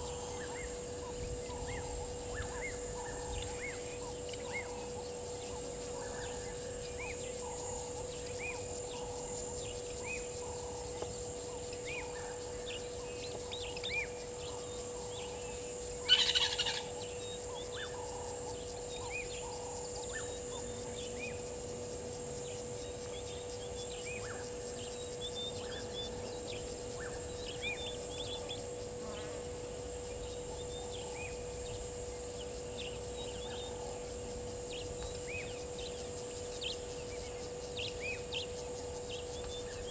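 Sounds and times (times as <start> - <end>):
faint steady hum: 0.0 - 39.9
high insect drone: 0.0 - 39.9.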